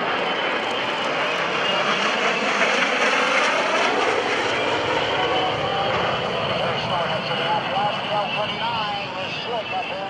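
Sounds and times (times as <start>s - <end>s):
jet engine rushing: 0.0s - 10.0s.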